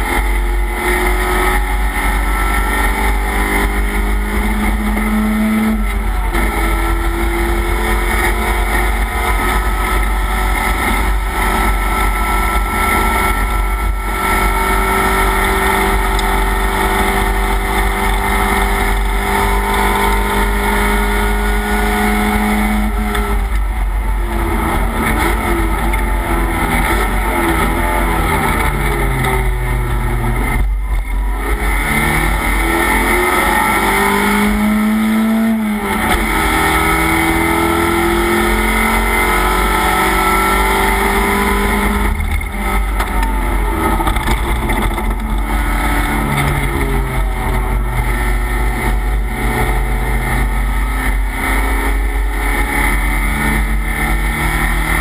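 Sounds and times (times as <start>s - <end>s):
race car engine from inside: 0.0s - 55.0s.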